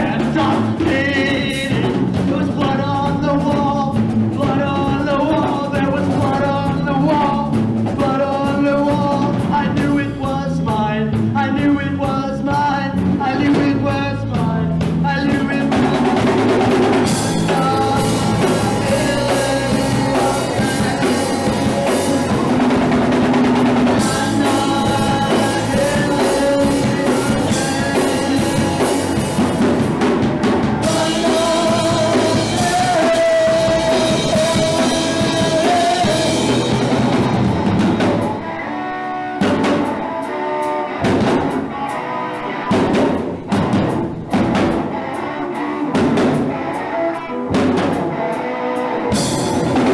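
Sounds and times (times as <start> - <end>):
punk rock band playing: 0.0 - 49.9.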